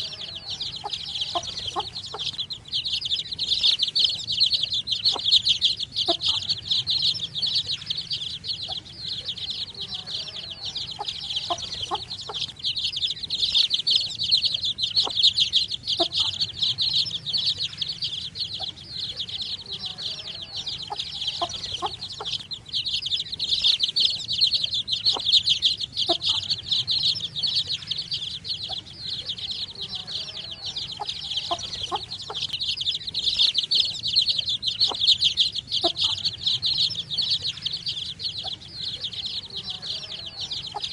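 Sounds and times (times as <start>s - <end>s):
short lower chick calls: 0.0s - 7.7s, 9.9s - 17.6s, 18.5s - 27.6s, 29.5s - 38.6s
baby chicks peeping: 0.0s - 40.9s.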